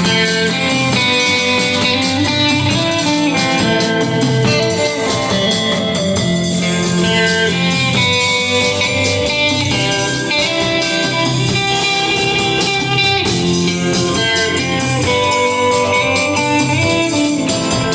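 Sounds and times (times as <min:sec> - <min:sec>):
band playing instrumental: 0:00.0 - 0:17.9
guitar melody: 0:00.0 - 0:17.9.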